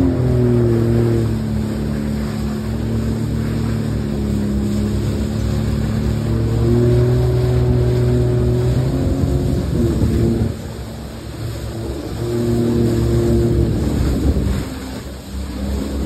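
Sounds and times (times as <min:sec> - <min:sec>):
watercraft engine humming: 0:00.0 - 0:16.0
wind and water rushing: 0:00.0 - 0:16.0.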